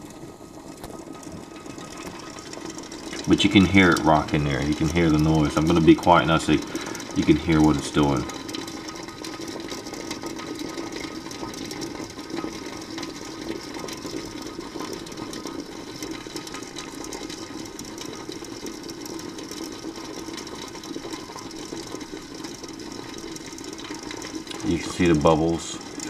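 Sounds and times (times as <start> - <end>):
kettle water crackling rattle: 0.0 - 26.0.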